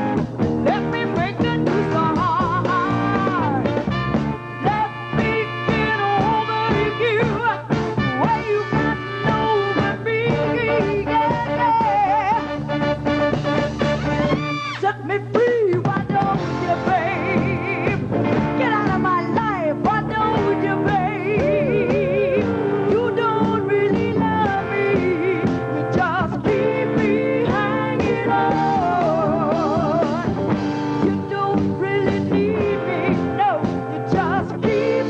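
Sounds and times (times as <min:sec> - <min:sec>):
person singing with vibrato: 0:00.0 - 0:12.8, 0:14.8 - 0:35.0
rock and roll band playing: 0:00.0 - 0:35.0.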